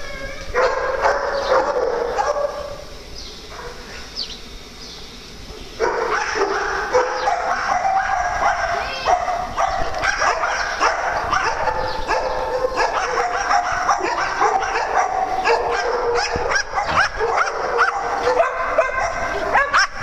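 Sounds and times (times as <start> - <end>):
small dogs barking and yipping: 0.0 - 2.8, 5.7 - 20.0.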